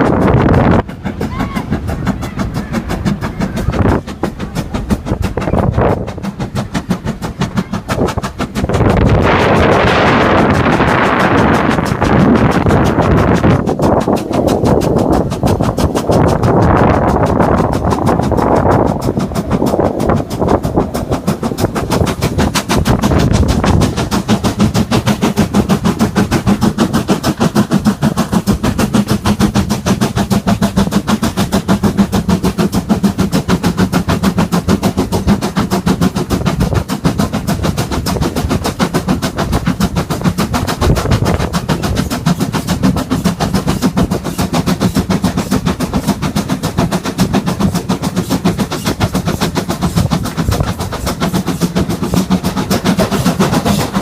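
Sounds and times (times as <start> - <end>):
steam train chuffing: 0.0 - 54.0.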